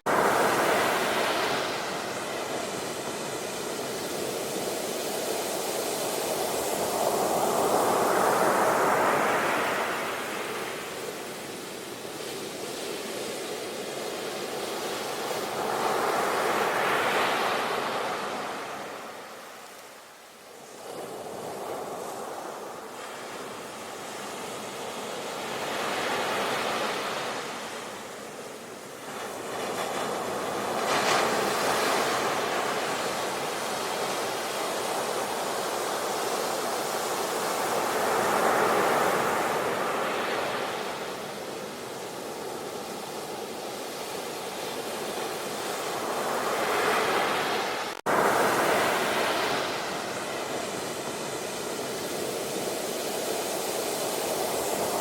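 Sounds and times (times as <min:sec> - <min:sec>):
ocean waves breaking: 0:00.1 - 0:19.9, 0:20.6 - 0:55.0.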